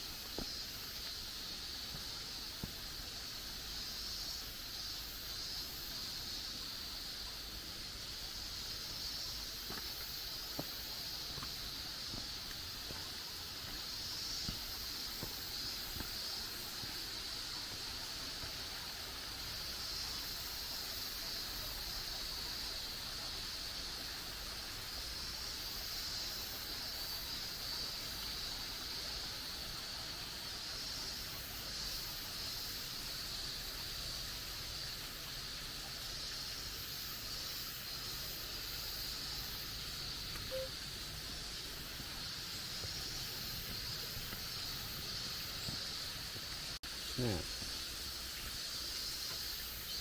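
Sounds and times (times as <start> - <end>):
forest ambience hiss: 0.0 - 50.0.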